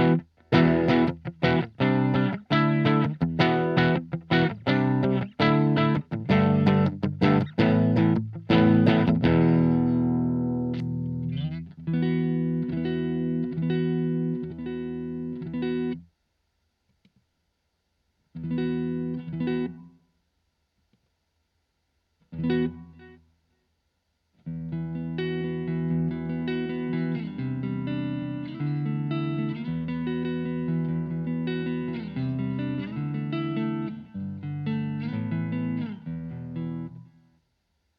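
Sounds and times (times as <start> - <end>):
electric guitar playing: 0.0 - 16.1, 18.4 - 20.0, 22.3 - 23.2, 24.4 - 37.2.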